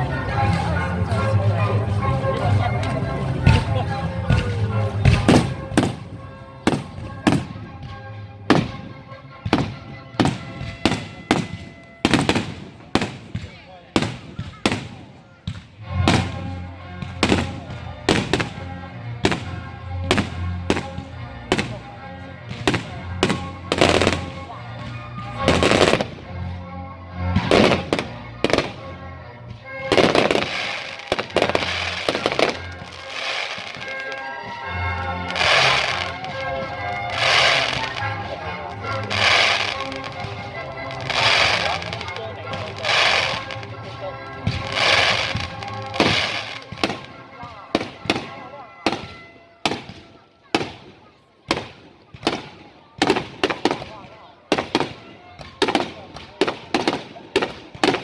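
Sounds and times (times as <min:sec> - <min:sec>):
fireworks bursting: 0:00.0 - 0:26.6, 0:27.3 - 0:58.0
music playing: 0:00.0 - 0:58.0.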